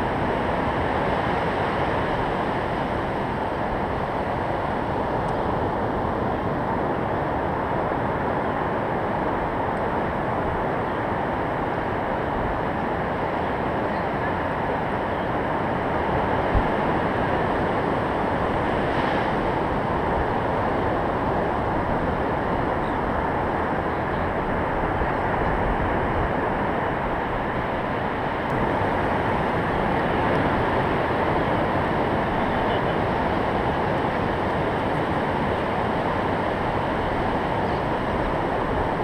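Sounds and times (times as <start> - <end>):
waves breaking on beach: 0.0 - 39.0.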